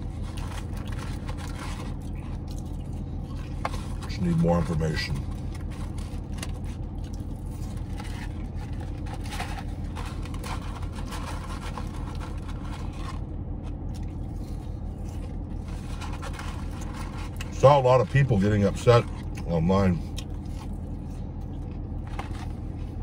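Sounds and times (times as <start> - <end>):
paper wrapper crinkling: 0.0 - 19.4
car idling hum: 0.0 - 23.0.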